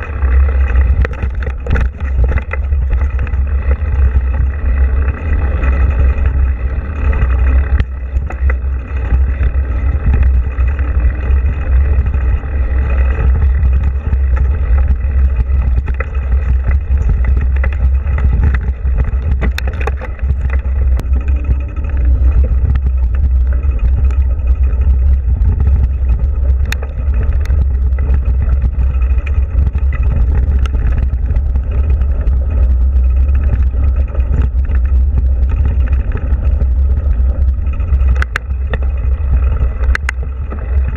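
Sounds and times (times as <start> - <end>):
tyres rolling on dirt trail: 0.0 - 40.9
wind and vibration rumble: 0.0 - 40.9.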